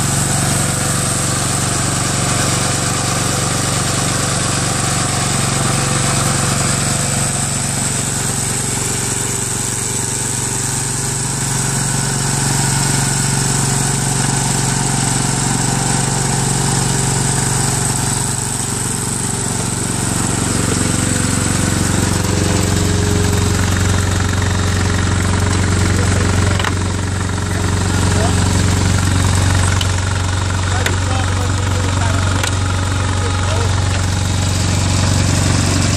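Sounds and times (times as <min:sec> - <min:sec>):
paver engine running: 0:00.0 - 0:35.9.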